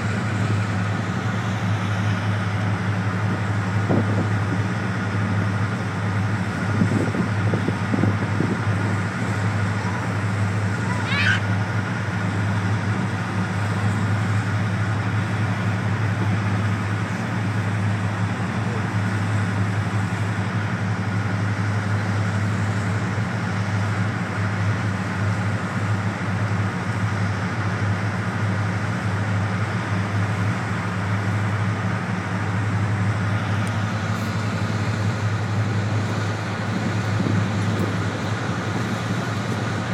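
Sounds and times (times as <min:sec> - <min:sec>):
diesel locomotive engines humming: 0:00.0 - 0:39.9.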